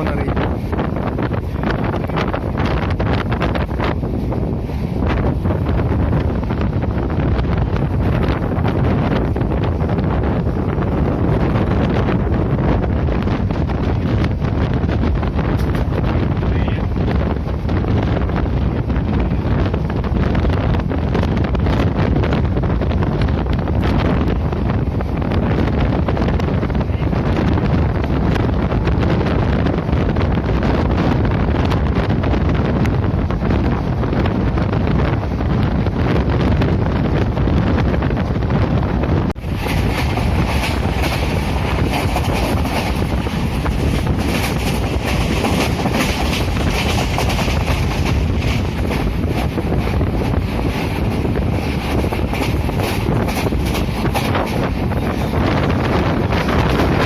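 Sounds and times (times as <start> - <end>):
train rumbling on track: 0.0 - 57.0
wind on microphone: 0.0 - 57.0.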